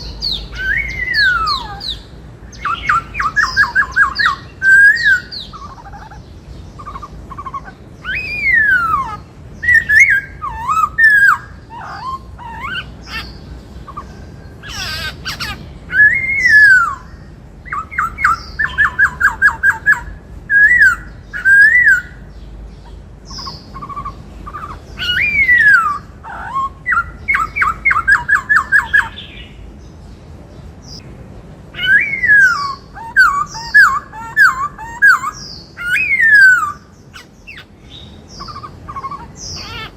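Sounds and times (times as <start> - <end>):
bird singing whistled phrases: 0.0 - 6.1, 6.8 - 13.3, 14.6 - 22.2, 23.3 - 29.3, 31.8 - 39.9.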